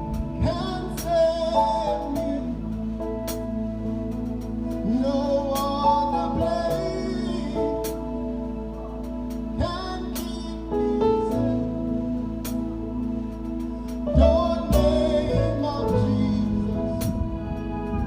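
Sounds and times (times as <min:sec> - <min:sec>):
person singing: 0:00.0 - 0:03.9, 0:04.6 - 0:12.6, 0:13.3 - 0:18.0.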